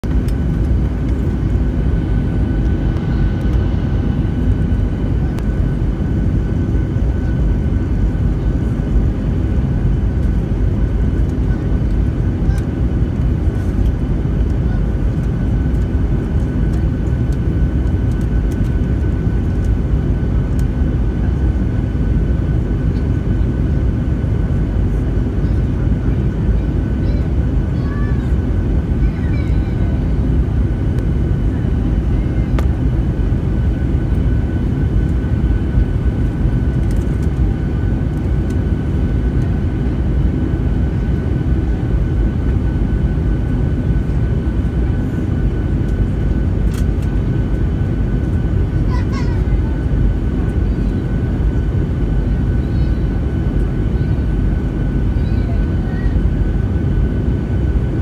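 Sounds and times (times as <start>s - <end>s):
airliner cabin rumble: 0.0s - 58.0s
high jet engine whine: 0.0s - 58.0s.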